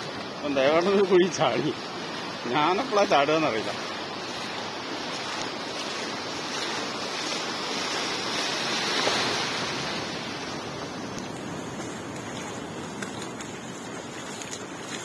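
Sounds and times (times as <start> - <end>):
waves washing over sandy beach: 0.0 - 15.0.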